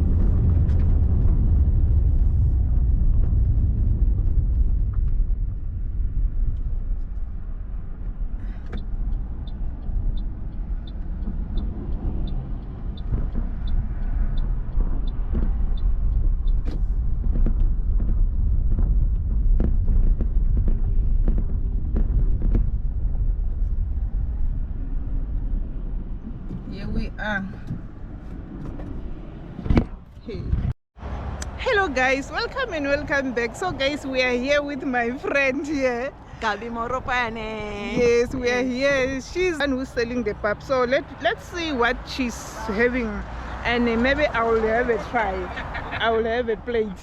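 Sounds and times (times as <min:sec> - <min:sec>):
road vehicles rumbling: 0:00.0 - 0:47.0.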